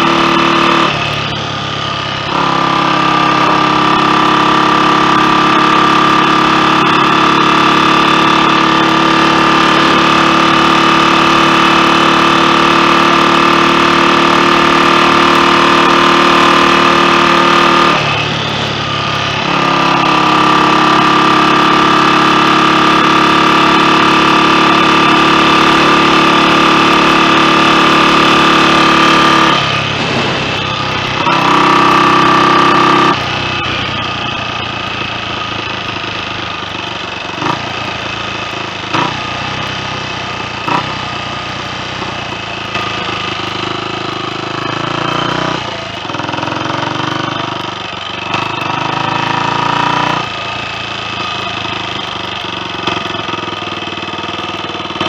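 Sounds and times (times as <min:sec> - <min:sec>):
motorcycle engine pulling: 0:00.0 - 0:55.0.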